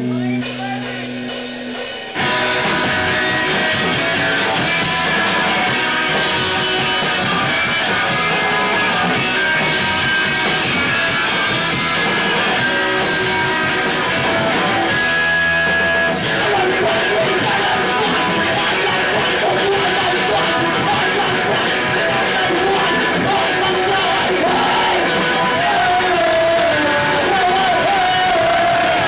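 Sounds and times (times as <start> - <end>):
punk band playing live: 0.0 - 29.0.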